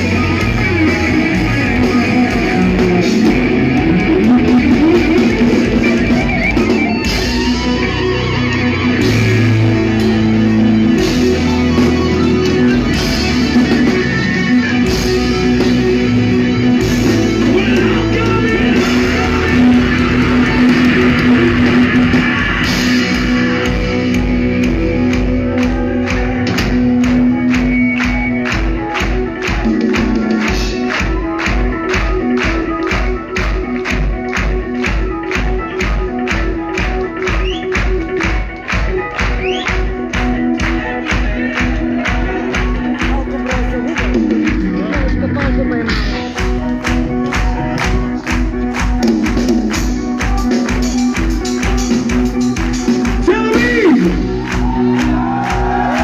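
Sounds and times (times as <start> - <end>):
fast drum beat: 0.0 - 7.9, 9.0 - 56.0
metal band playing live: 0.0 - 56.0.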